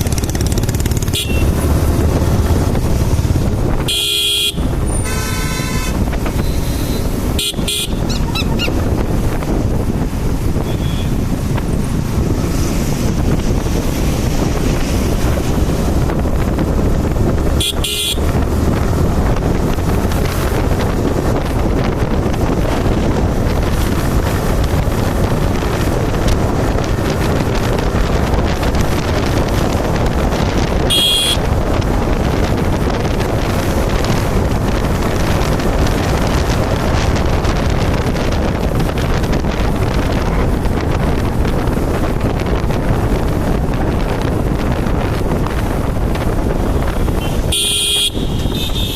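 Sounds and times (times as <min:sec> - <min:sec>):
road and traffic noise: 0:00.0 - 0:48.9
wind rushing over microphone: 0:00.0 - 0:48.9.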